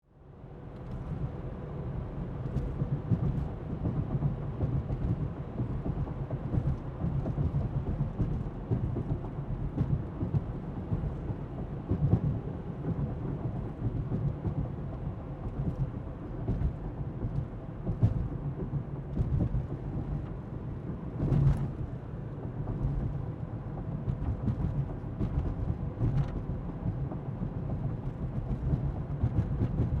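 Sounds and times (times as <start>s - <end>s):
car engine hum: 0.3s - 30.0s
tyres rumbling on road: 0.8s - 30.0s
suspension clicks and knocks: 2.4s - 30.0s.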